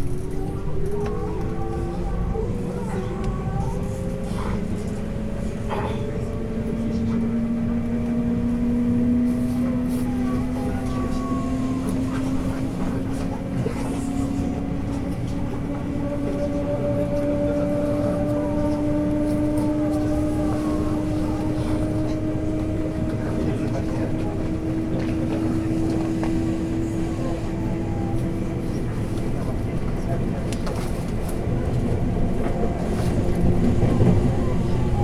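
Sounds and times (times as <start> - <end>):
wheels rumbling on rails: 0.0 - 35.0.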